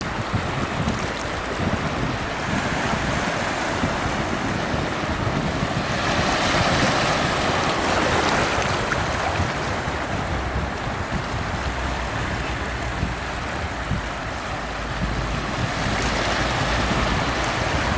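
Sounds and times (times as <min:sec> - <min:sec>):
ocean waves washing on shore: 0:00.0 - 0:17.9.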